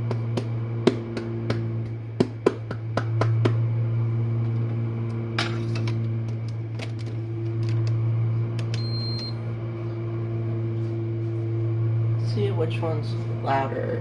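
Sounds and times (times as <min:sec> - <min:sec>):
dishwasher pump motor hum: 0:00.0 - 0:14.0.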